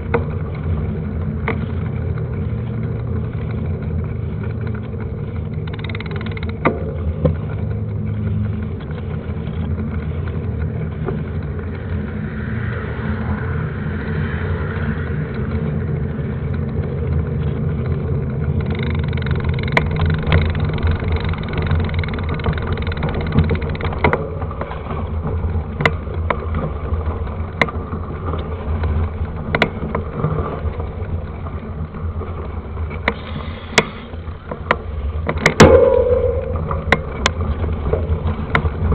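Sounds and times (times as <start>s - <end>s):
wind and bike ride rumble: 0.0s - 38.9s.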